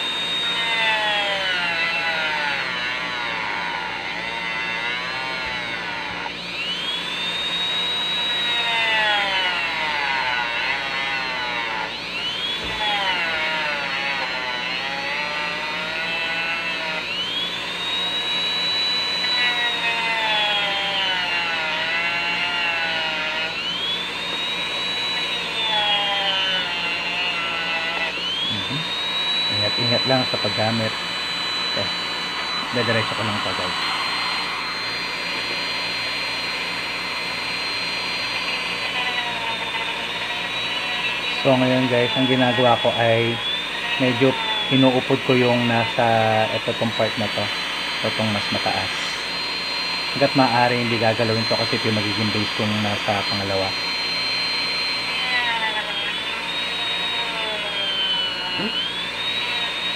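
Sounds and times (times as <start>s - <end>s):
rotary tool motor whine: 0.0s - 59.9s.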